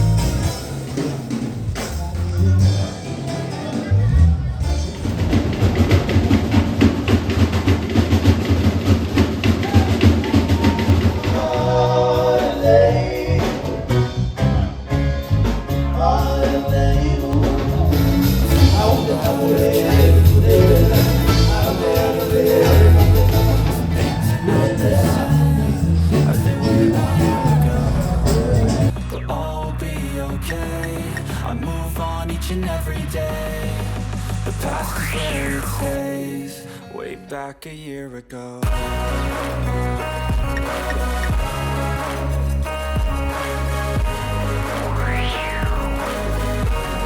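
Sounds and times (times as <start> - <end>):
pop song with steady beat: 0.0 - 7.0, 8.0 - 47.0
sung melody: 0.0 - 7.0, 11.1 - 37.5, 38.7 - 47.0.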